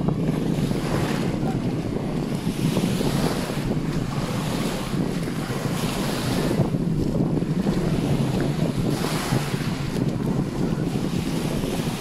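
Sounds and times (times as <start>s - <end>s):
waves washing on sandy shore: 0.0s - 12.0s
wind buffeting microphone: 0.0s - 12.0s.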